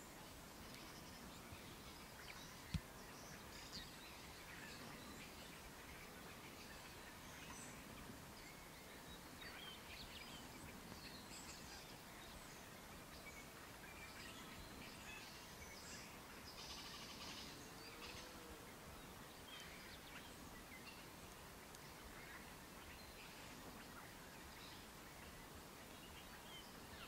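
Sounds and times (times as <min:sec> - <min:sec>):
faint outdoor hiss: 0:00.0 - 0:27.0.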